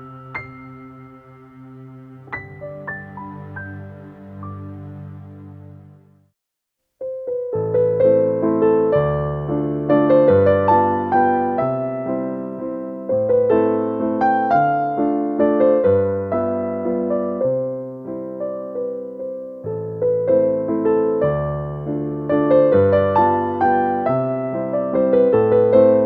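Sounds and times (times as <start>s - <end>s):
gentle solo piano piece: 0.0s - 4.6s, 7.0s - 26.0s.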